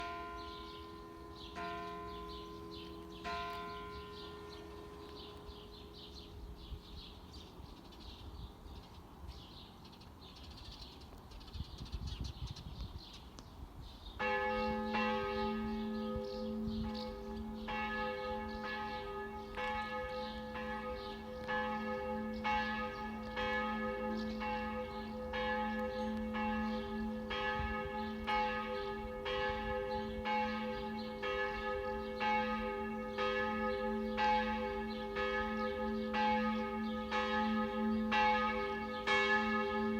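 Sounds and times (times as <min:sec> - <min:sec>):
church bells pealing: 0:00.0 - 0:07.6, 0:14.2 - 0:39.9.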